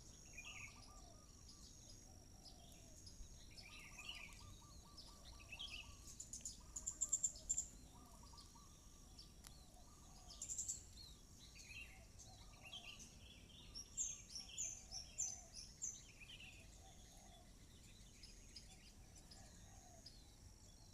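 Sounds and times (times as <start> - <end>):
faint background hiss: 0.0 - 20.9
birds chirping: 0.1 - 19.8.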